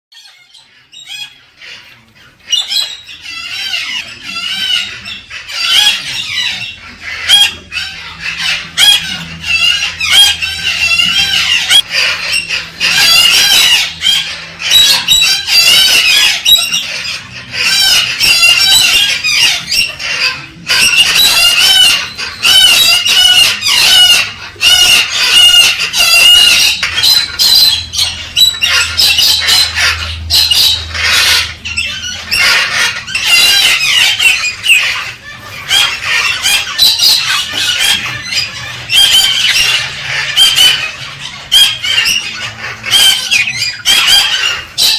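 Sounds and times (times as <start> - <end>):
cockatoos chirping and twittering: 0.1 - 44.9.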